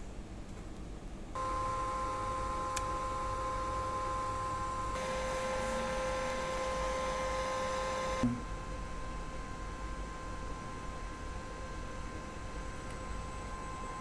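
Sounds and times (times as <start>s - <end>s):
electrical inverter whine: 1.4s - 14.0s.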